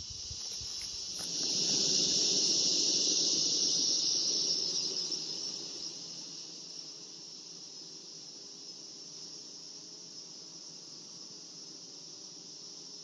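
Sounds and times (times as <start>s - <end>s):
high-pitched insect drone: 0.0s - 13.0s
honeybees buzzing: 0.3s - 13.0s.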